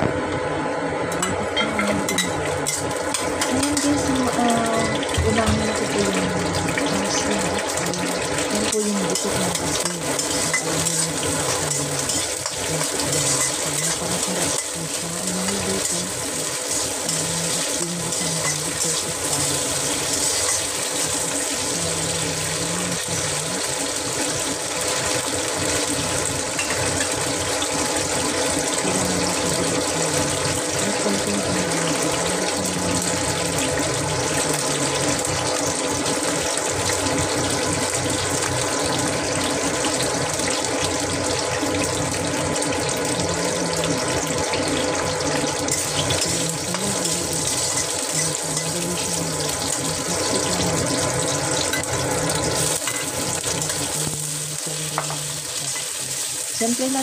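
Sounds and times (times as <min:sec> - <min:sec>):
nuts sizzling in hot oil: 0:01.2 - 0:57.0.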